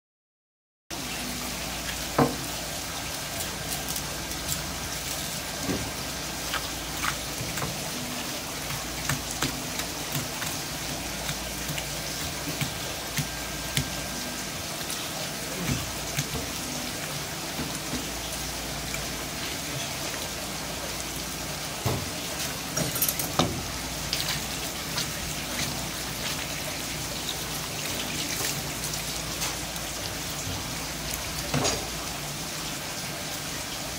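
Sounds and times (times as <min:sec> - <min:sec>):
running water splashing: 0:01.0 - 0:33.9.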